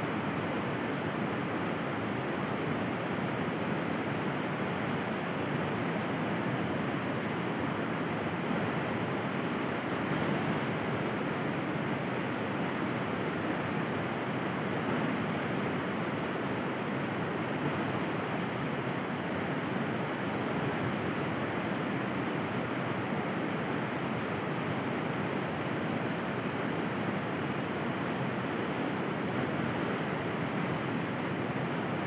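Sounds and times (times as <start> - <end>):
river water flowing: 0.0 - 32.0.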